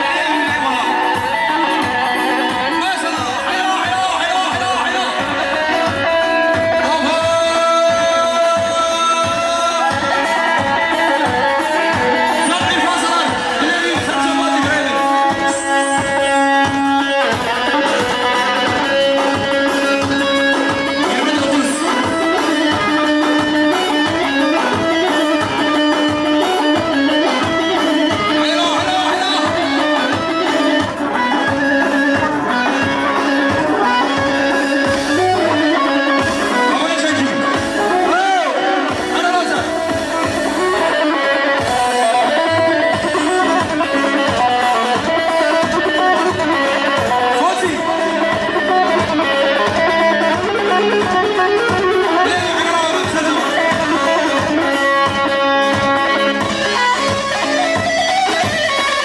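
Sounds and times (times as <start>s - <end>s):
amplified backing music: 0.0s - 59.0s.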